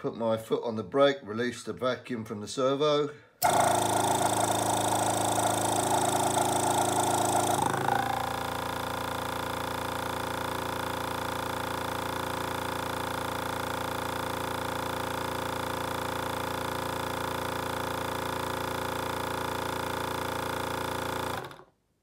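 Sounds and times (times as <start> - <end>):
electric vacuum pump humming: 3.4 - 21.7.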